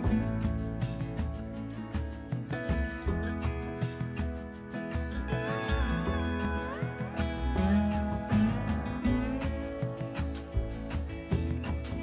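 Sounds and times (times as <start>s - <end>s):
guitar music with beat: 0.0s - 12.0s.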